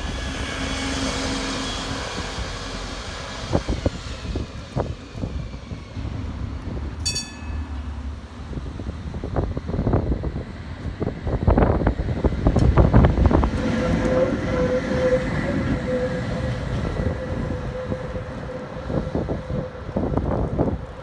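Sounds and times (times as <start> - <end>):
tram wheels rumbling and clacking: 0.0 - 21.0
tram whining tone: 0.0 - 21.0.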